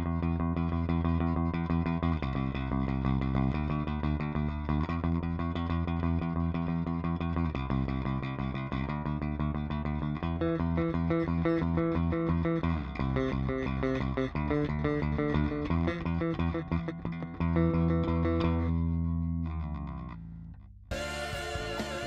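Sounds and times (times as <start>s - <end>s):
electric bass playing fast notes: 0.0s - 22.0s.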